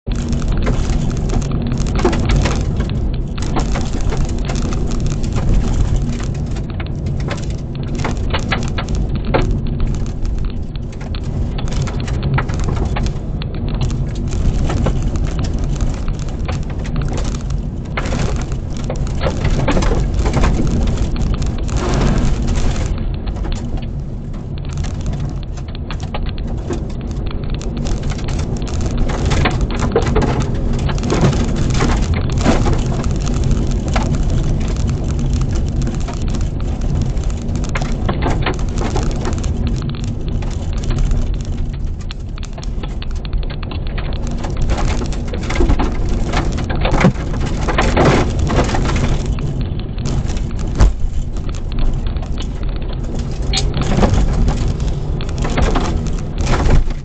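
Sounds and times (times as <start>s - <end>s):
tyre and road rumble: 0.0s - 57.0s
gravel pelting car underbody: 0.1s - 57.0s.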